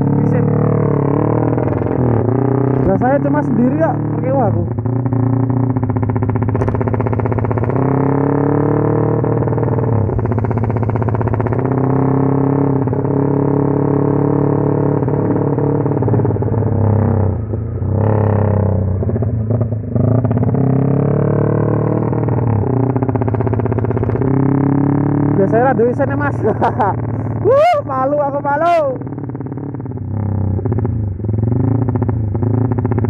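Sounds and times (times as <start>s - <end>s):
motorcycle engine stuttering: 0.0s - 33.0s.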